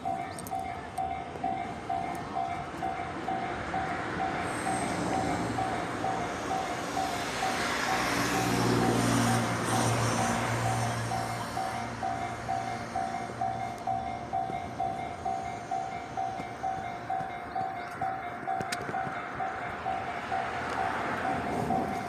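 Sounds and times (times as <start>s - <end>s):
level-crossing bell clanging: 0.0s - 22.0s
train rumble: 0.0s - 22.0s.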